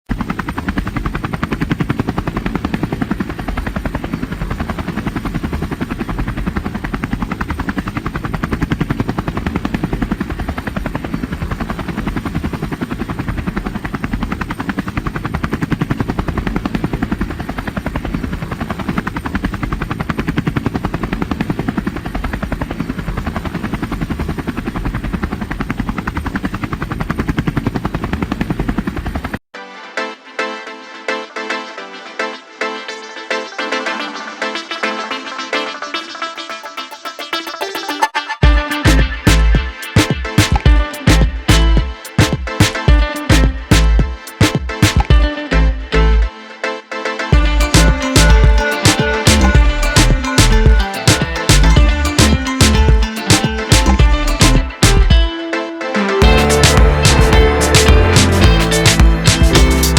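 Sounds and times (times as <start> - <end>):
helicopter rotor chopping: 0.0 - 29.4, 36.9 - 45.3, 47.4 - 55.2, 56.2 - 59.9.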